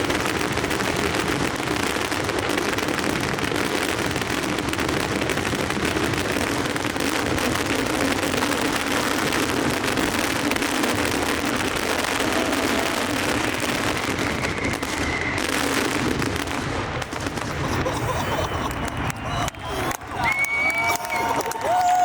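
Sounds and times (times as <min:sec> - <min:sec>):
fireworks crackling and bursting: 0:00.0 - 0:22.0.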